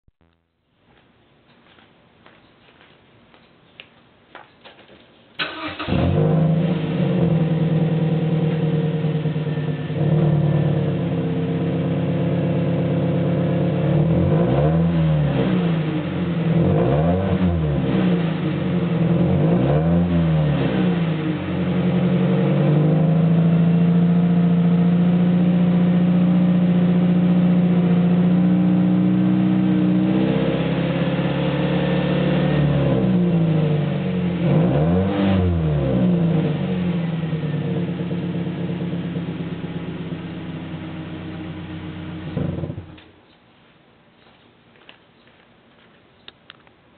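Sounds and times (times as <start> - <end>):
car engine idling and revving: 5.4 - 43.1
car engine starting: 5.4 - 43.1.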